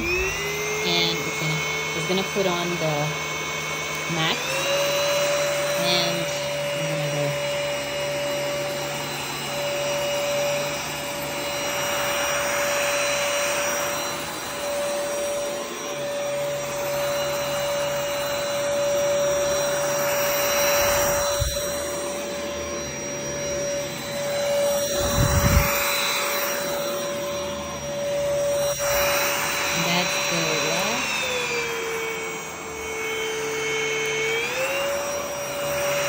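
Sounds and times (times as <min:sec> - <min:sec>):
stick vacuum running on carpet: 0:00.0 - 0:36.0.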